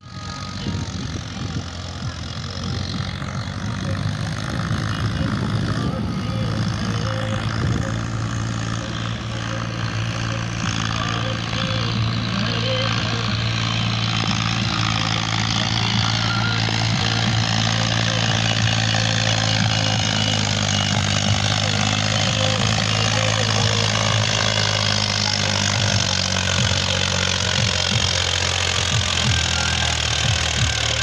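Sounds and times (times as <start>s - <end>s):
diesel tractor engine running: 0.0s - 31.0s.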